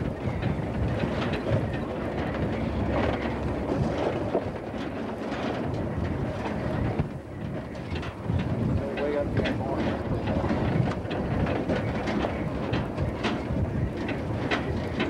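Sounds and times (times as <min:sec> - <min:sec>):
vehicle rumbling on bumpy road: 0:00.0 - 0:15.0
small knocks and rattles: 0:00.3 - 0:15.0.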